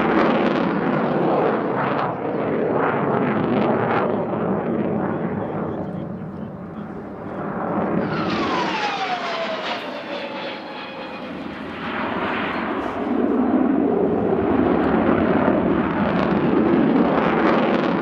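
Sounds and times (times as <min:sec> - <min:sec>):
jet engine whine and rumble: 0:00.0 - 0:18.0.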